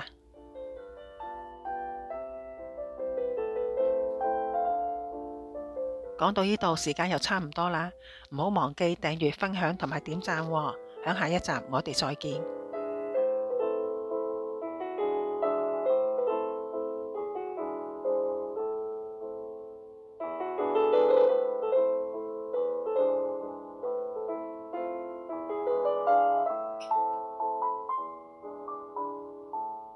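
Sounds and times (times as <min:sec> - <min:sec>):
gentle piano melody: 0:00.0 - 0:29.9.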